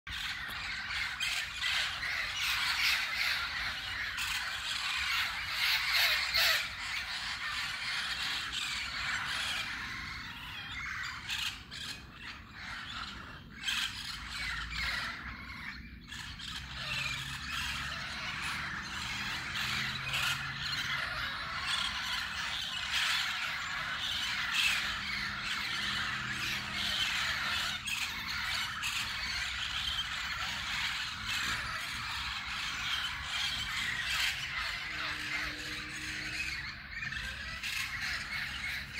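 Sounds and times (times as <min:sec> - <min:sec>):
parakeets squawking: 0:00.1 - 0:38.9.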